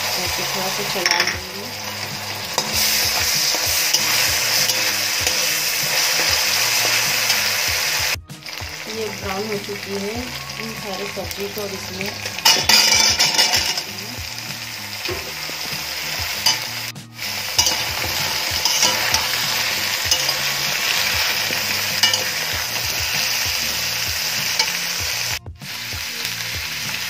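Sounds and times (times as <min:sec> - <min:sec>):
spatula stirring in pan: 0:00.0 - 0:08.9, 0:11.8 - 0:25.3
vegetables sizzling in hot oil: 0:00.0 - 0:27.0.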